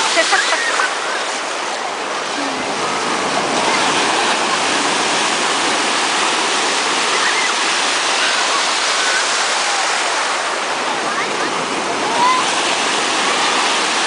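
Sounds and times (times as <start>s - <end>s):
ocean surf rushing: 0.0s - 14.0s.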